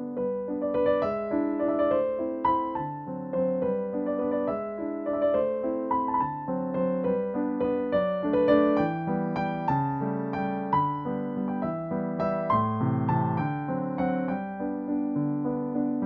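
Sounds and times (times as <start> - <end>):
gentle piano tune: 0.0 - 16.0.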